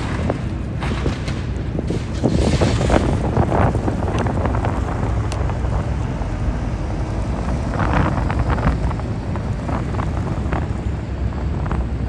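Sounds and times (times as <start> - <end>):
diesel truck rumble: 0.0 - 12.0
wind buffeting microphone: 0.0 - 12.0.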